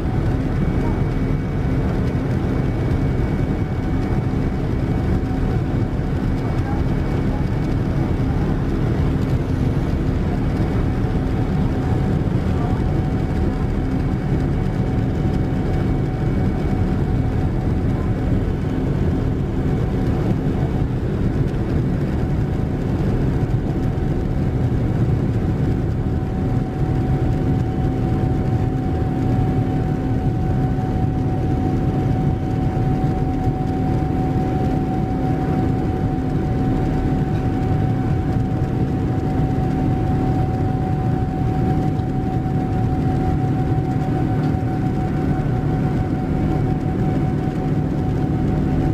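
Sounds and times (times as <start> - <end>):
jet engine and airflow noise in cabin: 0.0 - 48.9.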